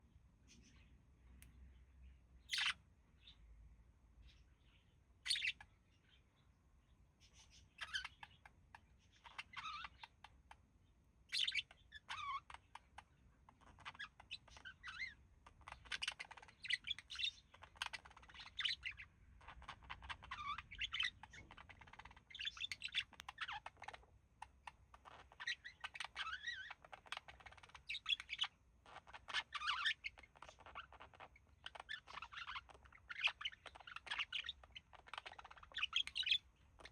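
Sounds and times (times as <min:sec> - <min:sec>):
budgerigars chirping and warbling: 0:01.7 - 0:03.6, 0:04.2 - 0:06.5, 0:07.2 - 0:36.9.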